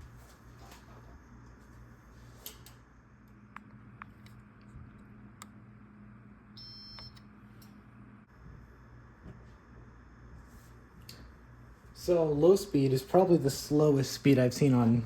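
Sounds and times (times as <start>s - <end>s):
ceiling fan motor hum: 0.0s - 15.0s
steady hum: 0.0s - 15.0s.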